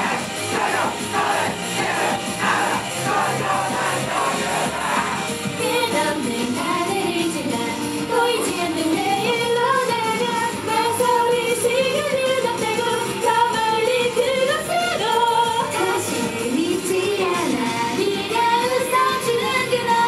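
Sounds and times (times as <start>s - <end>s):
backing track: 0.0s - 20.0s
women singing pop song: 0.0s - 20.0s.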